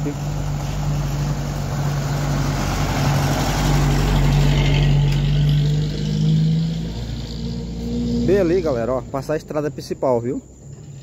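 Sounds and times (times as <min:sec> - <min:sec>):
truck driving past: 0:00.0 - 0:09.7.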